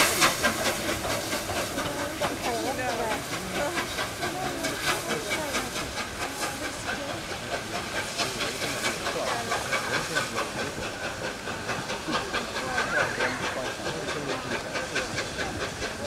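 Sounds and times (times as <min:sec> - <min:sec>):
steam hissing from cylinders: 0:00.0 - 0:16.0
steam locomotive beats: 0:00.0 - 0:16.0.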